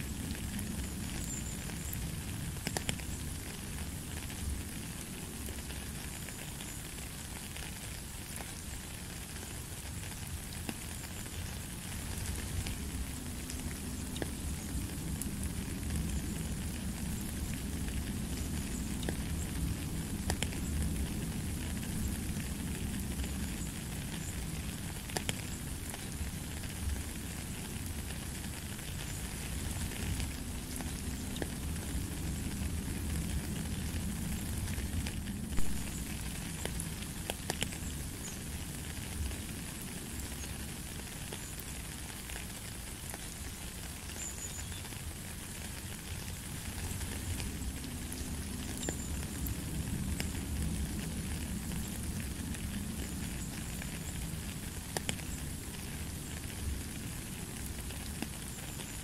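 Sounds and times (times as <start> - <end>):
rain on gravel and puddle: 0.0 - 59.0.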